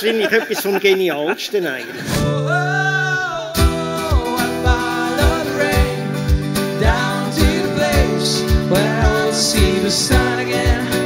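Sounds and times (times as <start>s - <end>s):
acoustic guitars strumming: 1.9s - 11.0s
men singing: 1.9s - 11.0s.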